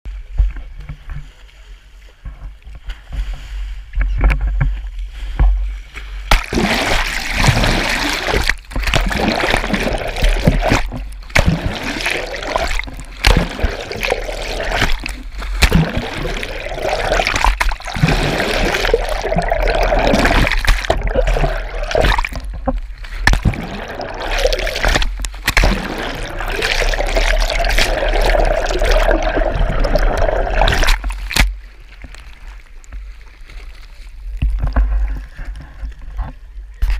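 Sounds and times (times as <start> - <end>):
water splashing against boat: 0.2 - 36.9.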